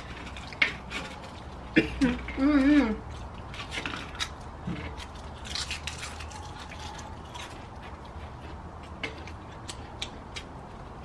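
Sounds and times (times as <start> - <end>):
potato chips crunching: 0.0 - 11.0.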